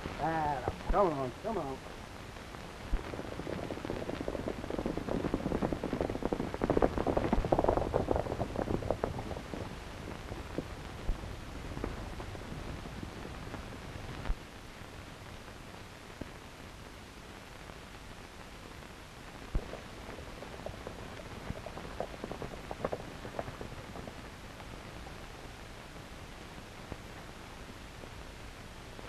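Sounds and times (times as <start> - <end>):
film soundtrack hiss: 0.0 - 29.0.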